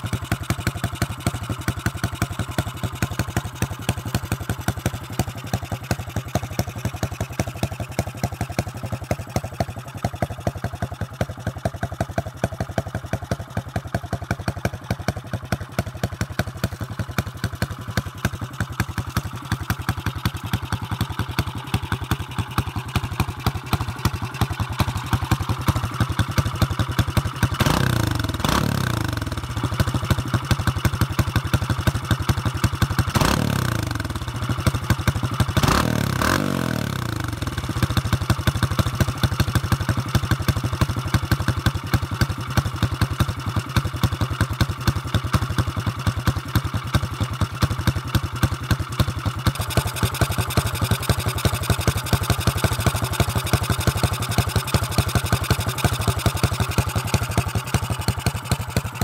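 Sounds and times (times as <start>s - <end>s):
motorcycle engine revving and idling: 0.0s - 59.0s.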